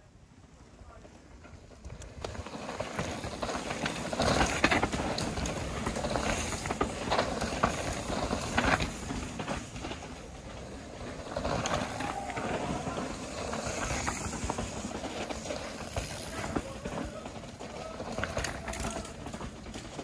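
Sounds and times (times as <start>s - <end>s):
bike tyres on dirt: 0.0s - 20.0s
bikes rattling: 0.0s - 20.0s.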